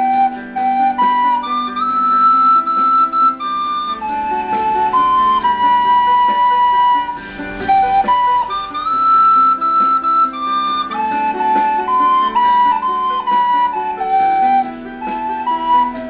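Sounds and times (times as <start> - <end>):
plucked string accompaniment: 0.0 - 16.0
recorder playing slow melody: 0.0 - 16.0.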